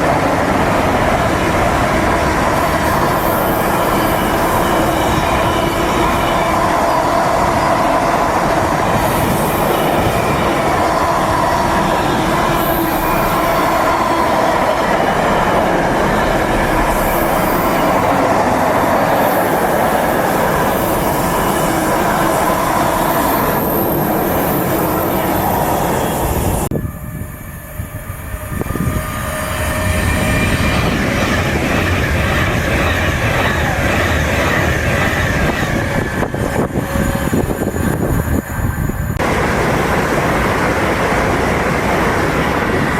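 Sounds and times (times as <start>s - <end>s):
train wheels on rails: 0.0s - 42.9s.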